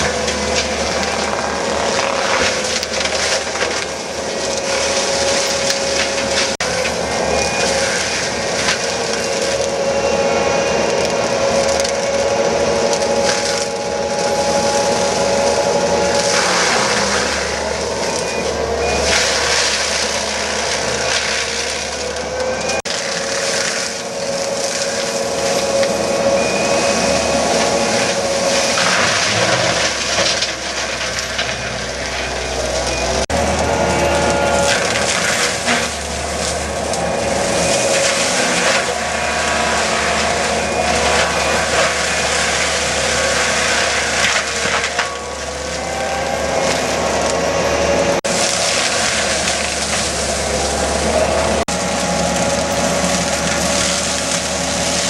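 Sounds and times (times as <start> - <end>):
forestry mulcher running: 0.0 - 55.0
wood cracking and splintering: 0.0 - 55.0.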